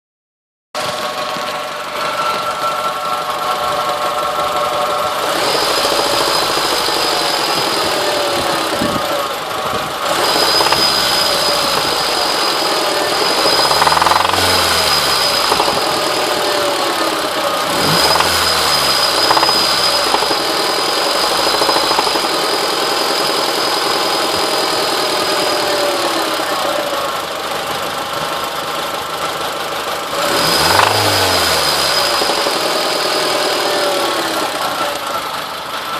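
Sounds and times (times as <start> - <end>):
car engine revving with knock: 4.1 - 28.6, 29.5 - 35.2.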